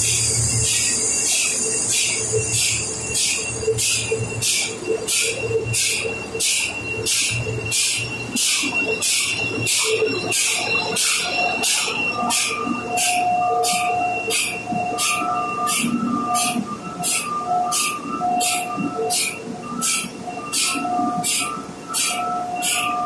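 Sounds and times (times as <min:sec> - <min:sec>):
machinery hum with whining tones: 0:00.0 - 0:23.0.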